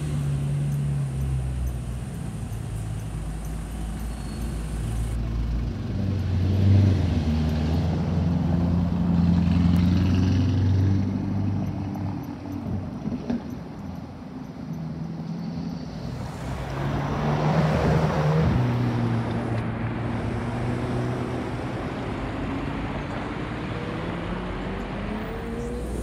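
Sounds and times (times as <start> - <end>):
car engine accelerating: 0.0 - 12.3, 15.0 - 26.0.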